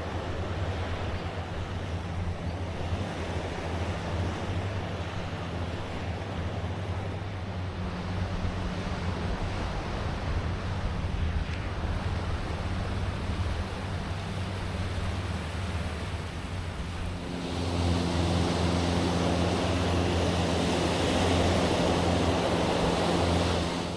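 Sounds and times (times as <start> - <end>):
low drone: 0.0 - 23.9
waves washing on a beach: 0.0 - 23.9
wind buffeting microphone: 0.0 - 23.9.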